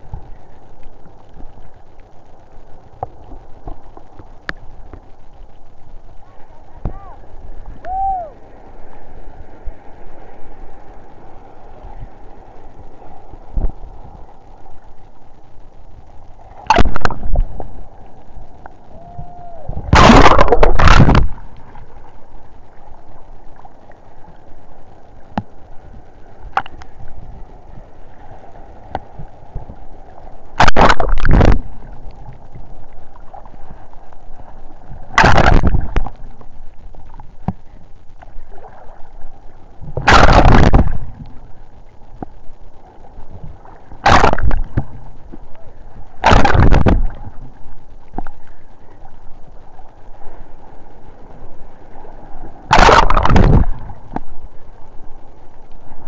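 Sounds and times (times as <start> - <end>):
sea waves washing: 6.2 - 15.2, 16.4 - 56.0
waves splashing: 6.2 - 15.2, 16.4 - 56.0.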